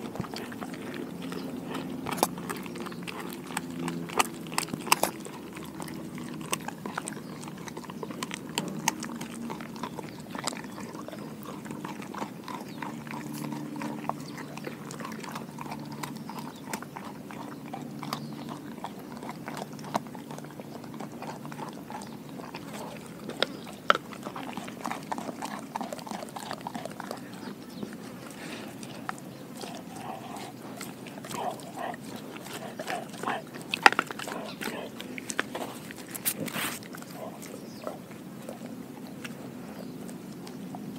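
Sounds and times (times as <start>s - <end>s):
dog gnawing on cartilage: 0.0s - 40.9s.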